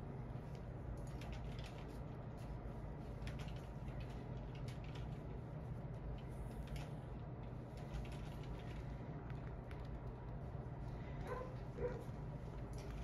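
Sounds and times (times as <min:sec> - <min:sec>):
low room hum: 0:00.0 - 0:13.0
tortoise claws clicking and scratching: 0:00.3 - 0:13.0.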